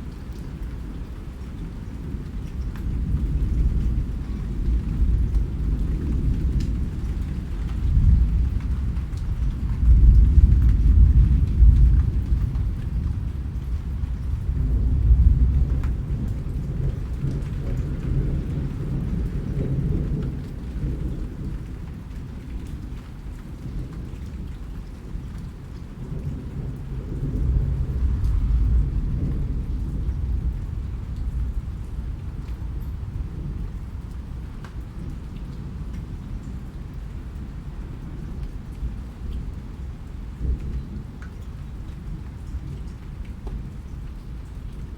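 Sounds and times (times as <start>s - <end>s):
steady rain: 0.0s - 44.9s
low rolling thunder: 1.8s - 44.9s.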